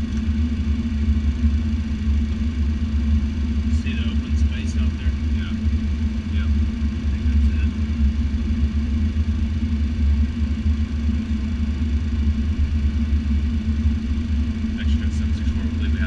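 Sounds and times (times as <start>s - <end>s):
jet cabin rumble: 0.0s - 16.0s
steady hum: 0.0s - 16.0s.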